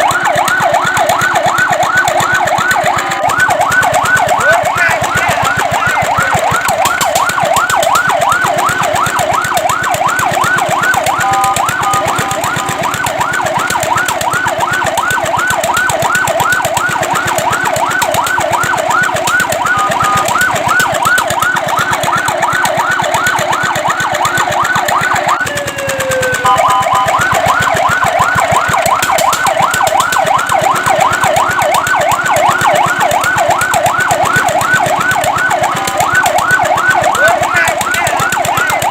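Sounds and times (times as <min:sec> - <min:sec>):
fire truck siren yelping: 0:00.0 - 0:38.9.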